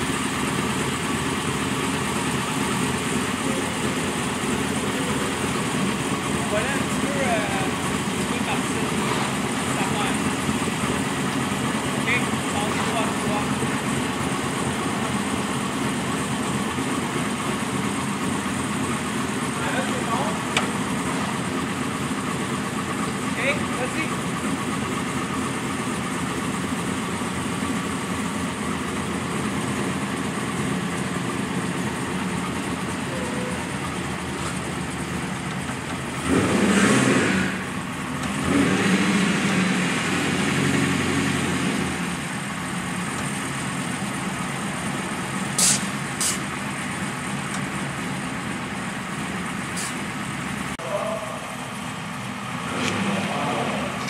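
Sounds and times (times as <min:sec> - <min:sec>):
car engine idling: 0:00.0 - 0:54.0
engine throttle surges: 0:00.0 - 0:54.0.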